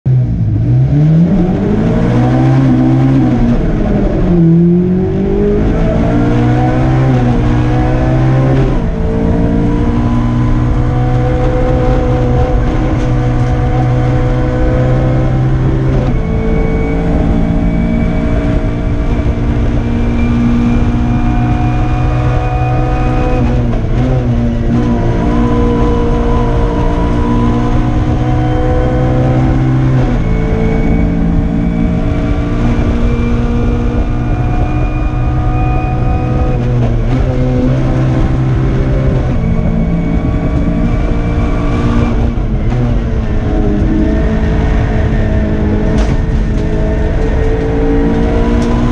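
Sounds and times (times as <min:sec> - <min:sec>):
car engine revving through gears: 0:00.1 - 0:48.9.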